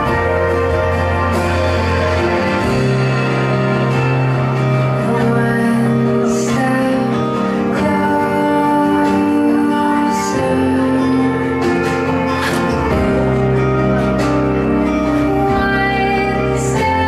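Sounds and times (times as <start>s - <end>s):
background music with guitar: 0.0s - 17.0s.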